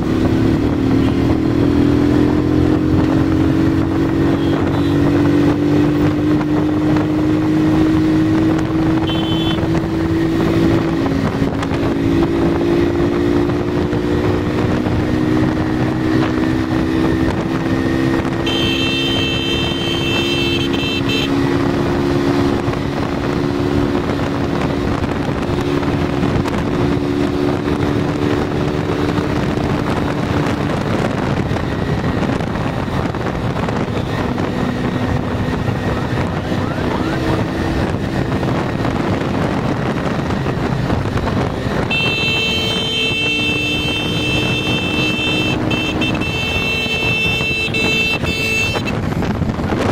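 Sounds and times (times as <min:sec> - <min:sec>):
scooter engine running: 0:00.0 - 0:49.9
wind over microphone: 0:00.0 - 0:49.9.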